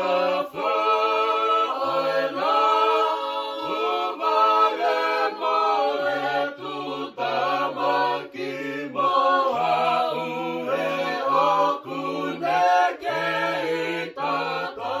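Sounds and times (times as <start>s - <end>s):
choir singing a hymn a cappella: 0.0s - 15.0s.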